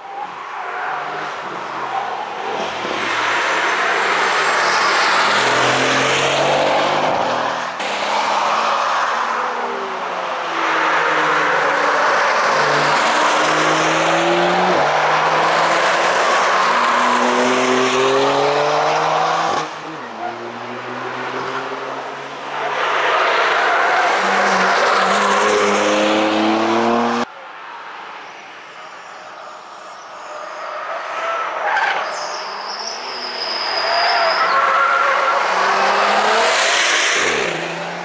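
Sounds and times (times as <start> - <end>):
race cars passing: 0.0 - 28.0, 29.4 - 38.0.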